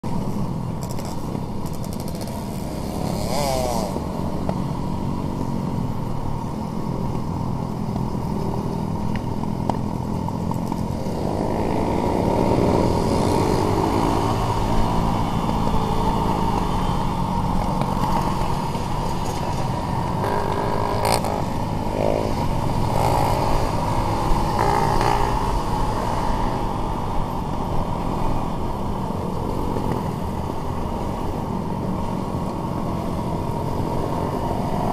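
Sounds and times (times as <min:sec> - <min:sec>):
motorcycle engines revving: 0:00.2 - 0:34.9.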